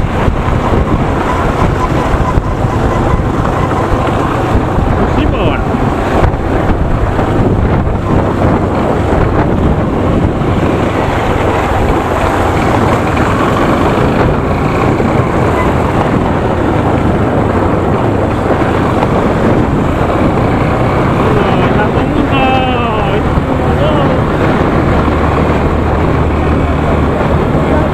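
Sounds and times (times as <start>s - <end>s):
motorcycle engine drone: 0.0s - 27.9s
wind buffeting microphone: 0.0s - 27.9s.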